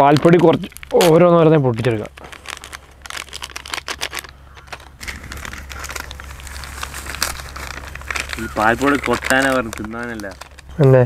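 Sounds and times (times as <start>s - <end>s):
plastic packets tearing and crinkling: 0.0s - 11.0s.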